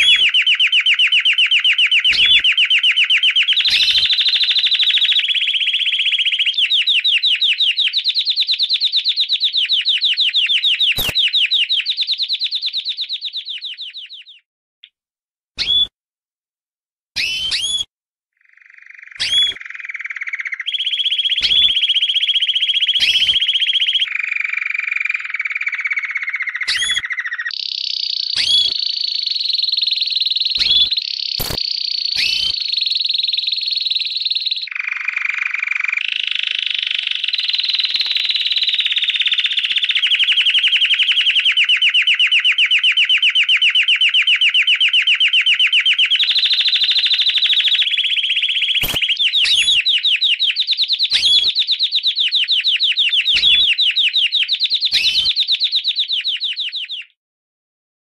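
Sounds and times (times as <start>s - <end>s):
short sharp bird chirps: 0.0s - 8.6s, 9.6s - 15.0s, 15.6s - 15.9s, 17.2s - 41.7s, 45.6s - 57.2s
bird rapid chattering trill: 0.0s - 14.4s, 19.1s - 57.1s.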